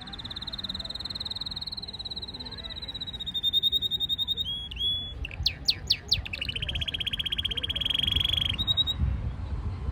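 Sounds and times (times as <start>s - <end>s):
canary singing trill: 0.0s - 9.0s.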